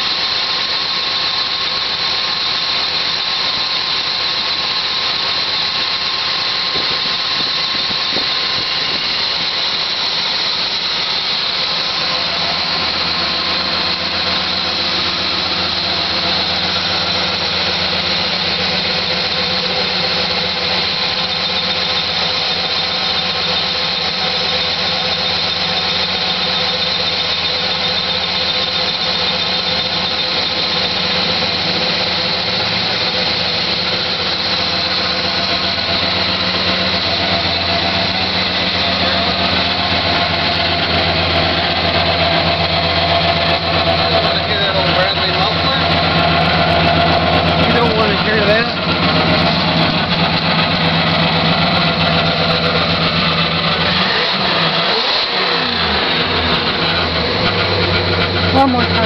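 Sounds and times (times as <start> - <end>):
car engine idling: 0.0 - 59.0
high-pitched squeal: 0.0 - 59.0.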